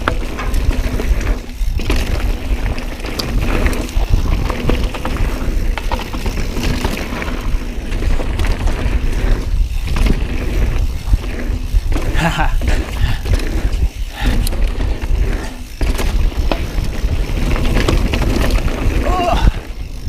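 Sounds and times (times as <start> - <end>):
bike tyres and frame rattling: 0.0 - 20.0
wind rumble on microphone: 0.0 - 20.0.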